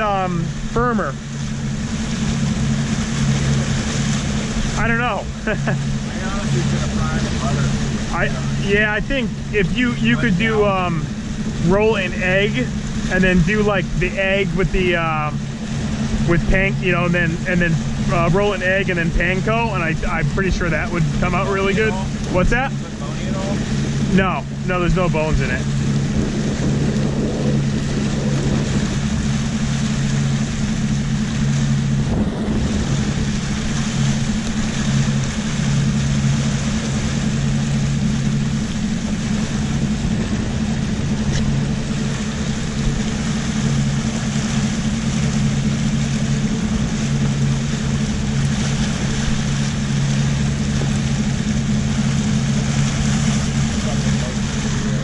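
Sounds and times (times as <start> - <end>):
outboard motor droning: 0.0 - 55.0
water and wind rushing: 0.0 - 55.0.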